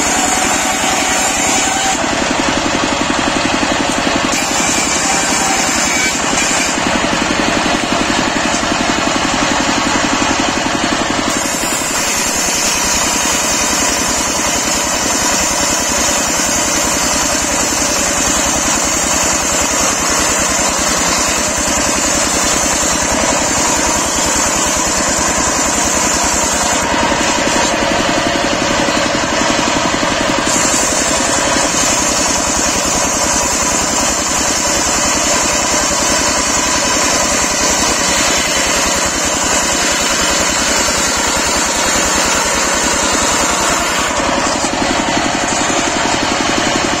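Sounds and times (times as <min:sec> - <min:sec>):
circular saw cutting log: 0:00.0 - 0:47.0
engine running steadily: 0:00.0 - 0:47.0.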